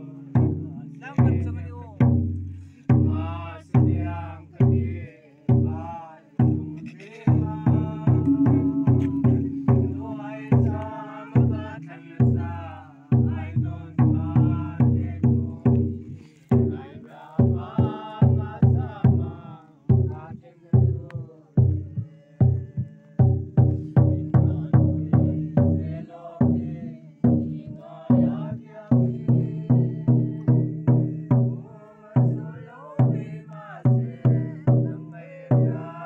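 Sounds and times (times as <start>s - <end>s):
barrel drum deep thumps: 0.4s - 4.9s, 5.5s - 12.6s, 13.2s - 21.0s, 21.6s - 31.6s
group singing a chant: 2.9s - 36.0s.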